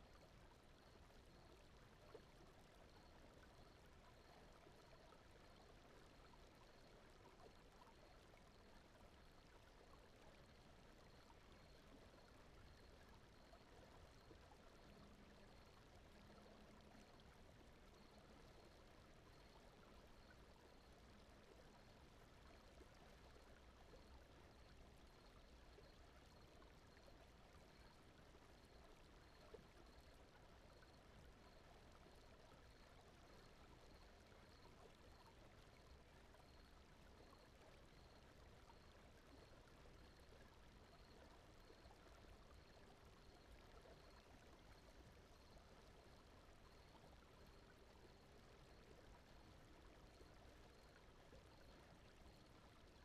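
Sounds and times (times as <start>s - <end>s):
faint brown noise hiss: 0.0s - 53.0s.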